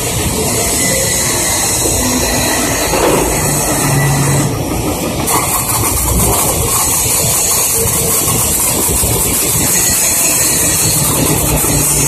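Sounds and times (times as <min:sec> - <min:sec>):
workshop background noise: 0:00.0 - 0:12.0.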